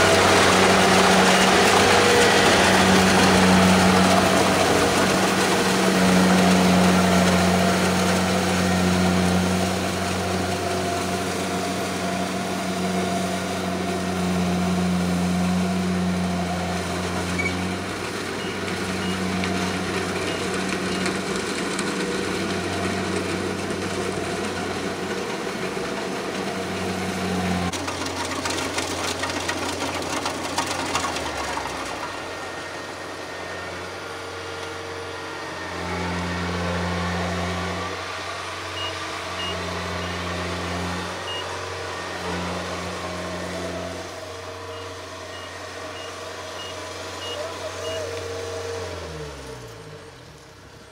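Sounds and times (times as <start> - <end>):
combine harvester engine humming: 0.0 - 50.9.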